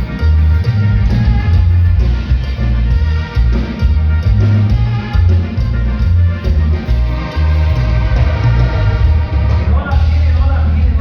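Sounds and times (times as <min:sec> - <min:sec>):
latin dance band music: 0:00.0 - 0:11.0.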